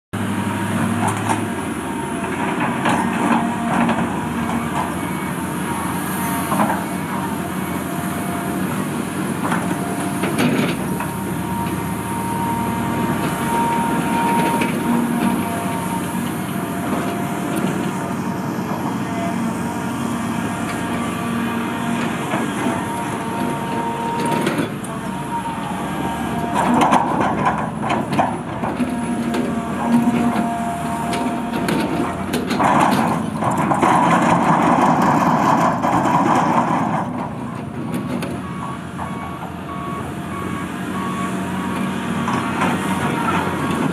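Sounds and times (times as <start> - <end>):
excavator engine and hydraulics whine: 0.2 - 43.9
excavator clanks and knocks: 0.7 - 5.5, 6.4 - 40.0, 41.7 - 43.9.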